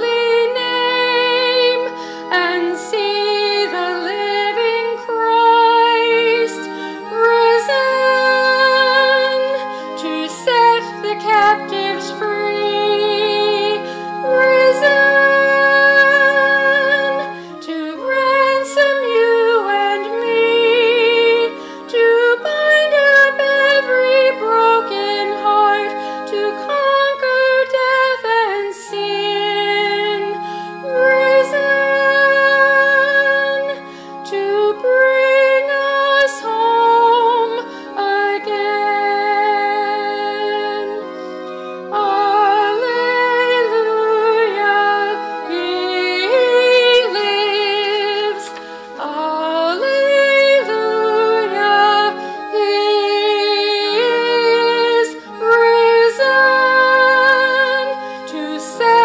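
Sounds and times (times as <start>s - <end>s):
woman singing a hymn: 0.0s - 41.2s, 41.8s - 59.0s
held accompaniment chords: 0.0s - 59.0s.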